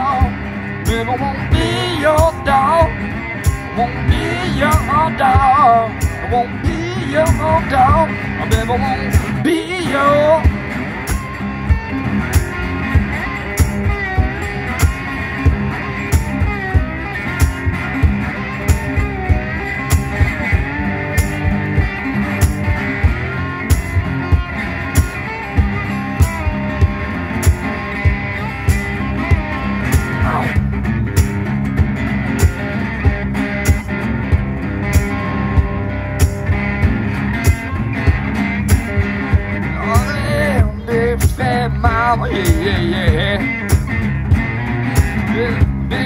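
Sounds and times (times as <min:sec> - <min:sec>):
blues resonator guitar sliding: 0:00.0 - 0:46.0.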